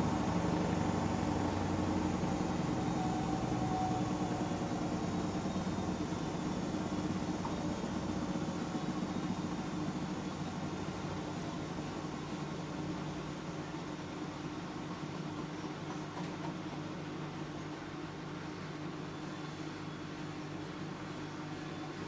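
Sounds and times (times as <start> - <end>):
washing machine humming: 0.0 - 22.0.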